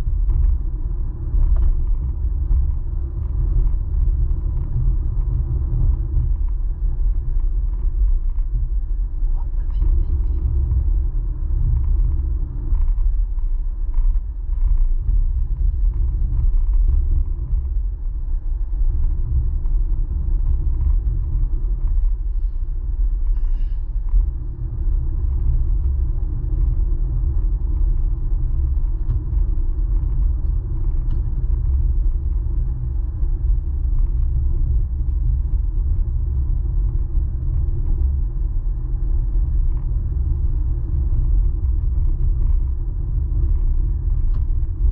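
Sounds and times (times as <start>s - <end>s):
car cabin road and engine rumble: 0.0s - 44.9s.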